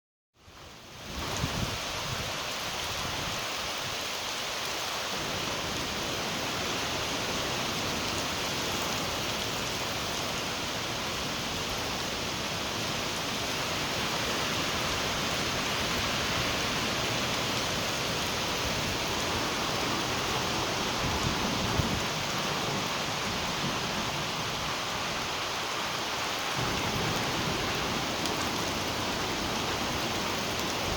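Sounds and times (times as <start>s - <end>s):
rain falling: 0.5s - 30.9s
wind rumbling in gusts: 0.9s - 4.2s, 5.1s - 30.9s.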